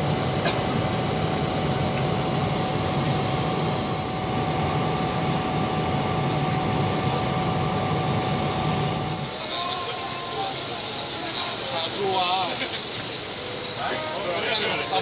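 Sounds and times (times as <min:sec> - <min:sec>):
low drone: 0:00.0 - 0:15.0
thin steady whine: 0:00.0 - 0:15.0.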